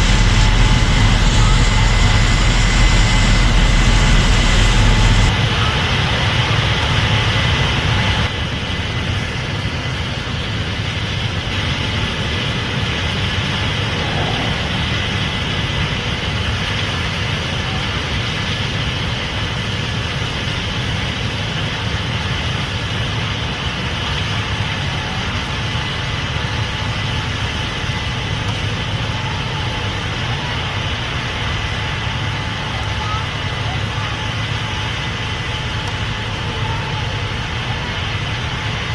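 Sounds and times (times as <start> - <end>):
combine harvester diesel drone: 0.0 - 38.9
faint steady machine whine: 0.0 - 38.9.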